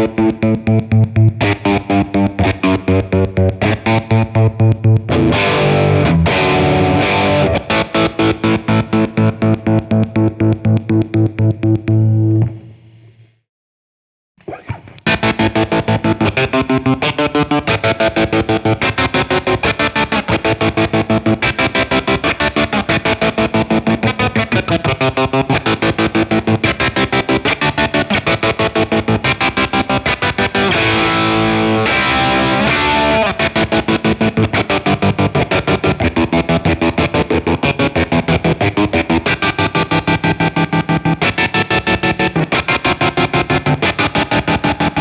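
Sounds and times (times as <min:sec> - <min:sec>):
distorted electric guitar riff: 0:00.0 - 0:13.4, 0:14.4 - 0:45.0.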